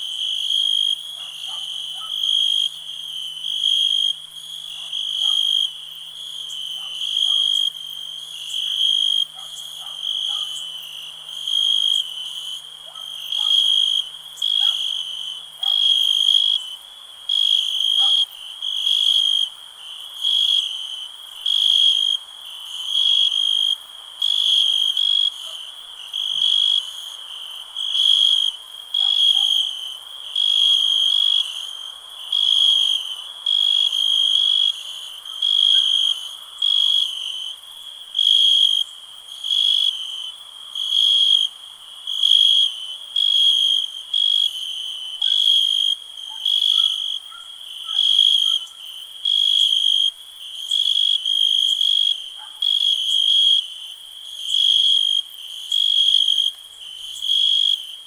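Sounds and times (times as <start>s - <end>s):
crickets chirping: 0.0s - 58.0s
faint insect chorus: 0.0s - 58.0s.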